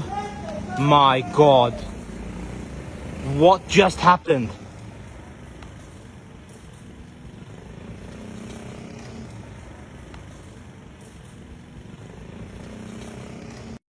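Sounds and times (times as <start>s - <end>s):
road traffic noise: 0.0s - 13.8s
vehicle engine running: 0.0s - 13.8s.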